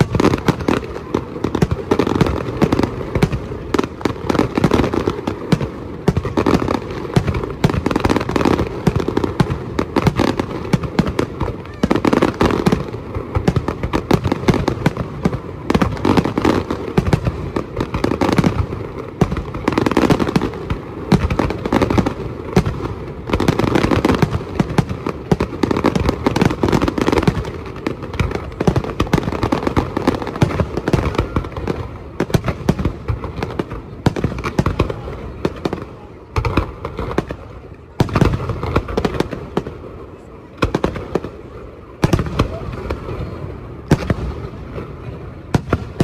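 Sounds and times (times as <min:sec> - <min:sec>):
fireworks bangs and crackles: 0:00.0 - 0:46.0.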